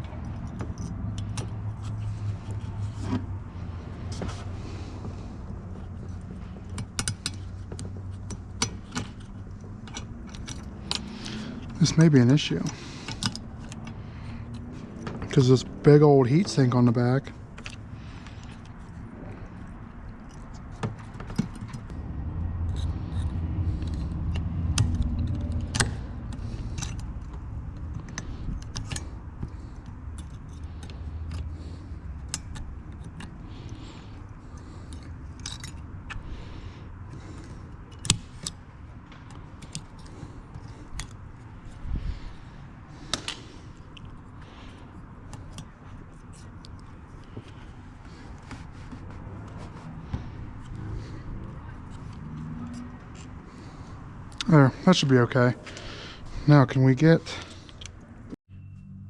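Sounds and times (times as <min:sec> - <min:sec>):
clicks and rattles of handling: 0:00.0 - 0:21.9, 0:22.7 - 0:54.5
low rumble of handling noise: 0:00.0 - 0:58.4.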